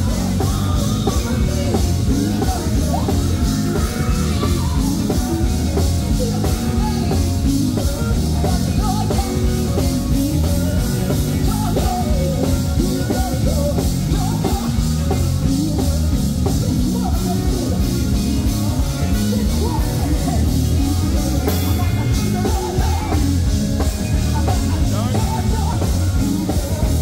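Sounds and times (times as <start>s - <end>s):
bass: 0.0s - 27.0s
drums: 0.0s - 27.0s
person singing gospel: 0.0s - 27.0s.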